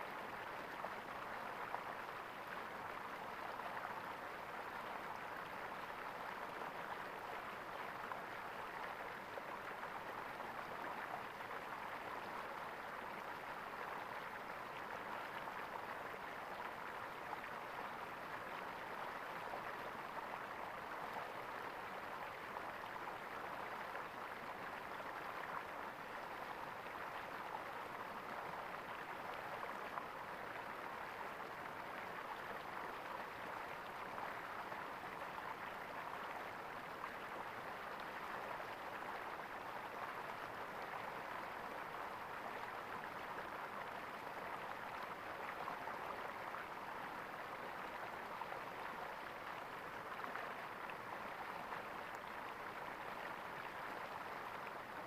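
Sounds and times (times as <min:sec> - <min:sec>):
running water gurgling: 0:00.0 - 0:55.0.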